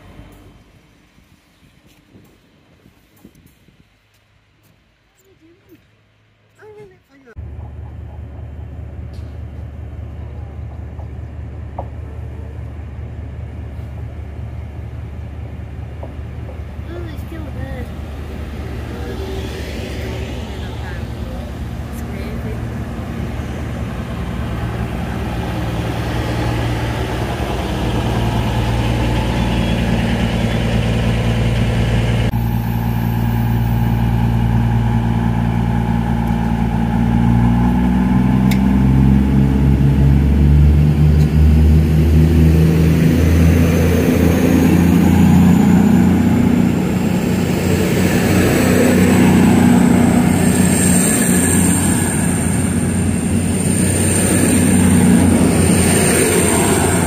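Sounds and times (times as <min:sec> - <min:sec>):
train diesel engines idling and revving: 0:00.0 - 0:57.0.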